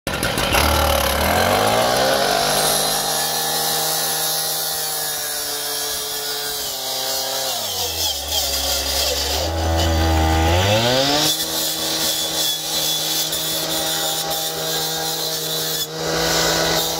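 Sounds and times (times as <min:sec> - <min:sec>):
cut-off saw engine revving: 0:00.1 - 0:16.9
saw blade grinding through steel: 0:00.1 - 0:16.9.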